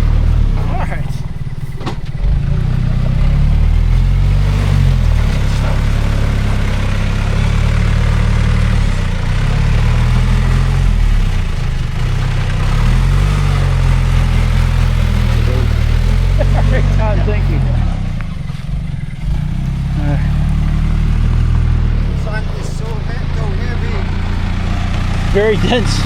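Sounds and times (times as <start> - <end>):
large engine revving: 0.0 - 26.0.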